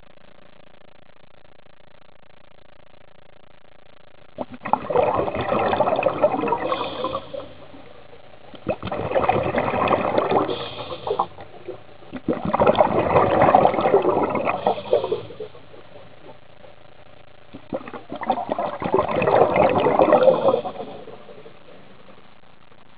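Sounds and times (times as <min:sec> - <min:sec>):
underwater bubbling and gurgling: 0:04.3 - 0:22.9.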